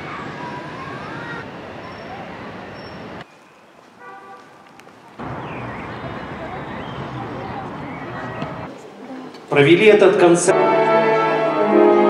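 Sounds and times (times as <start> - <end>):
city rushing noise: 0.0 - 12.0.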